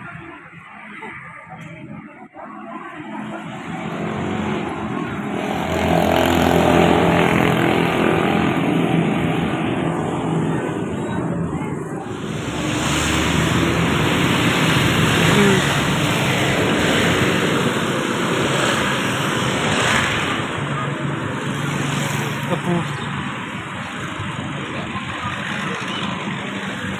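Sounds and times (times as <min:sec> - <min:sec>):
bus driving past: 0:02.6 - 0:26.9.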